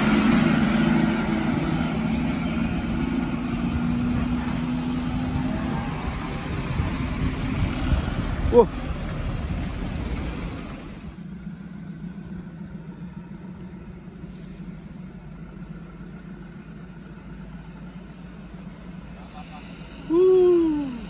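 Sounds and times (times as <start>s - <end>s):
heavy truck engine running: 0.0s - 21.0s.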